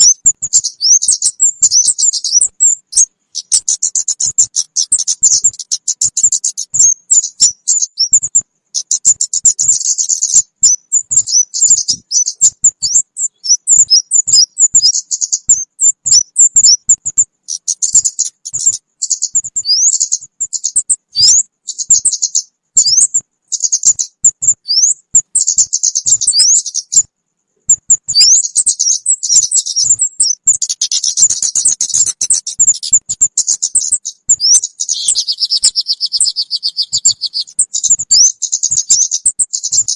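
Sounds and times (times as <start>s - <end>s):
high-pitched bird chirps: 0.0s - 39.9s.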